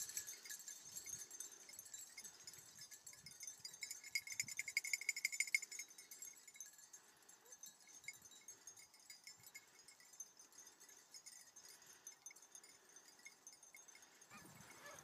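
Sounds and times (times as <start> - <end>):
dog collar bells jingling: 0.0 - 15.0.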